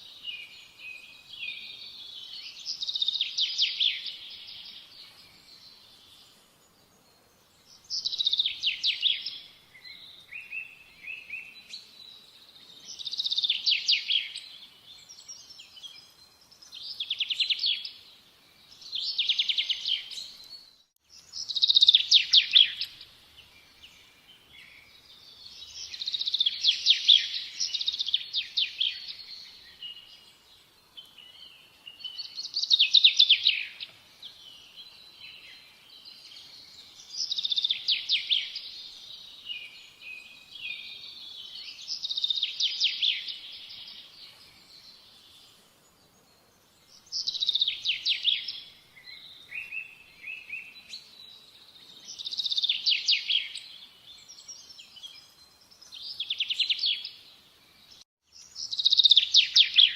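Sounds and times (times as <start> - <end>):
soft bird chirps: 0.0 - 59.9.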